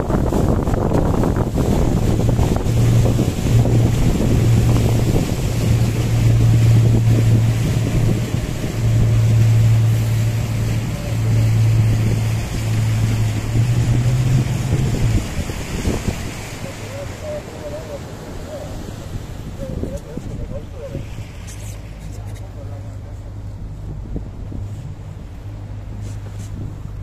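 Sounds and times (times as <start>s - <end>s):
outboard engine running: 0.0s - 27.0s
water rushing past hull: 0.0s - 27.0s
wind buffeting microphone: 0.0s - 27.0s.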